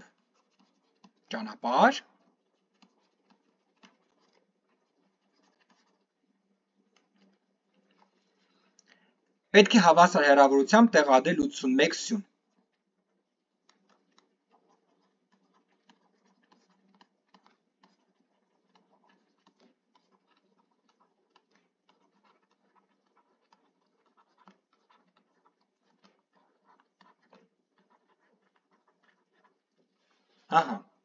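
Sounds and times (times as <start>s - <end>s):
stylus scratching on tablet: 0.0s - 31.0s.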